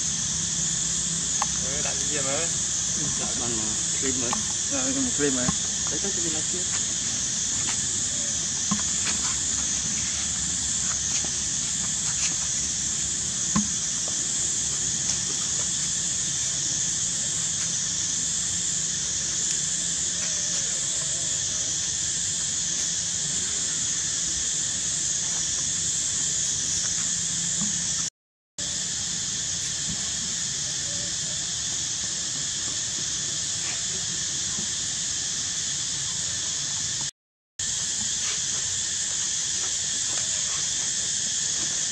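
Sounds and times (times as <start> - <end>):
insect chorus buzzing: 0.0 - 41.9.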